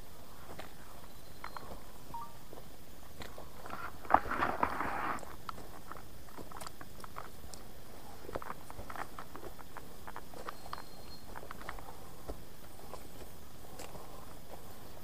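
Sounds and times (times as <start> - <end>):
footsteps crunching on trail: 0.0 - 15.0.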